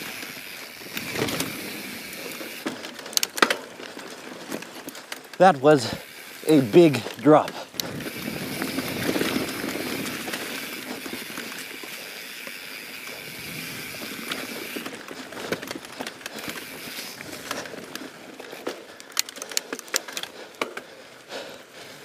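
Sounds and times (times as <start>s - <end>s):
bike tyre hiss and wind: 0.0s - 3.1s, 3.9s - 22.0s
bike clicks and rattles: 0.0s - 22.0s.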